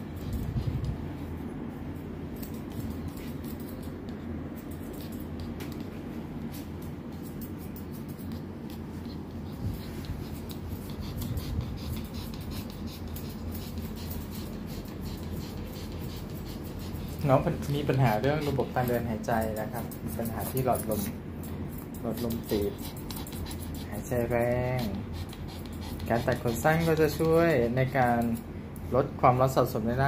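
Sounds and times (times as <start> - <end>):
scissors snipping fur: 0.0 - 1.2, 2.0 - 29.8
steady low hum: 0.0 - 30.0.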